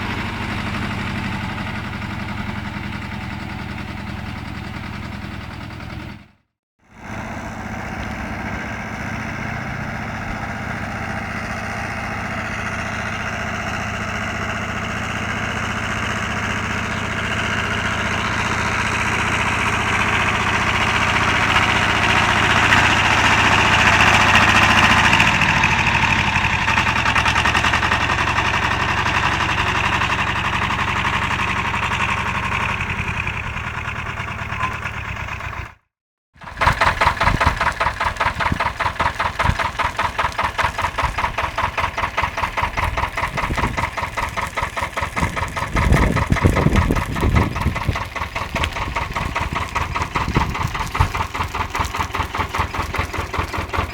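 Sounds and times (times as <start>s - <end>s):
tractor engine running: 0.0s - 35.8s, 36.4s - 53.9s.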